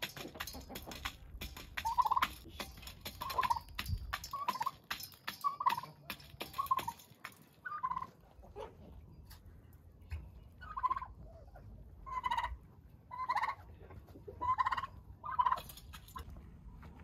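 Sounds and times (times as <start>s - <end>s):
turkeys calling: 0.0s - 9.0s, 10.5s - 16.3s.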